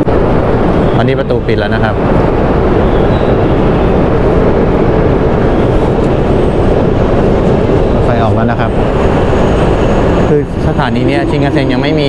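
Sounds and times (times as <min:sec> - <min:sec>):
bullet train running noise: 0:00.0 - 0:12.0.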